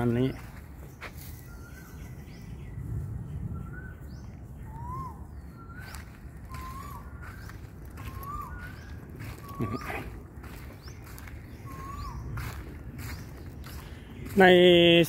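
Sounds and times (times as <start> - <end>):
birds whistling: 0.0 - 15.0
high bird chirps: 0.1 - 15.0.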